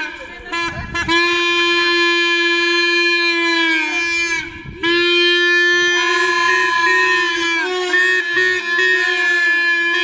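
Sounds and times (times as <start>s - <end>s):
plastic stadium horn blasts: 0.0s - 10.0s.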